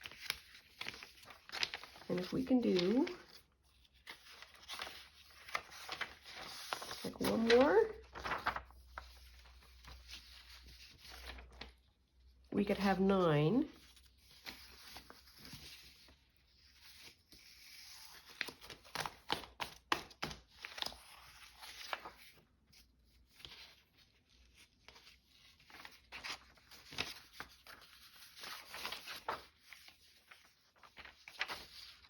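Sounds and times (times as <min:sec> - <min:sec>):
paper rustling and shuffling: 0:00.0 - 0:32.0.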